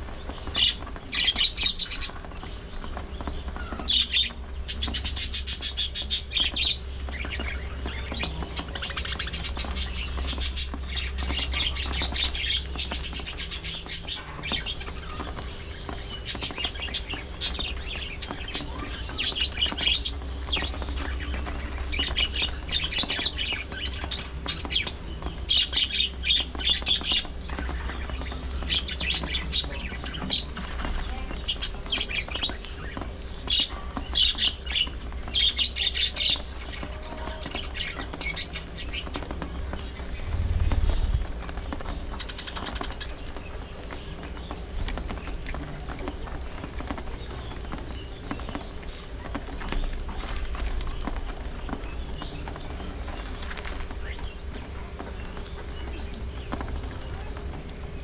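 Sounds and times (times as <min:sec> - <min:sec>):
budgerigars chirping and squawking: 0:00.3 - 0:57.9.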